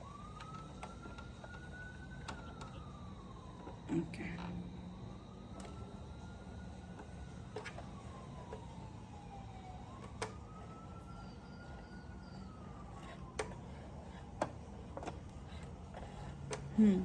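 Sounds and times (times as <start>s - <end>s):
siren wailing: 0.0s - 14.3s.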